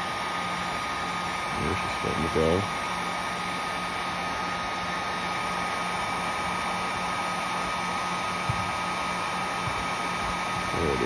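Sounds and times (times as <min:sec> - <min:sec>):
heat gun fan whining: 0:00.0 - 0:11.0.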